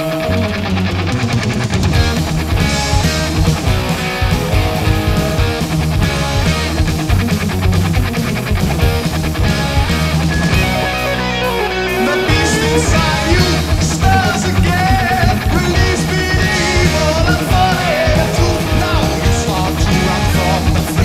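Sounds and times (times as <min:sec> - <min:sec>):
heavy metal band playing: 0:00.0 - 0:21.0
high lead guitar line: 0:00.0 - 0:21.0.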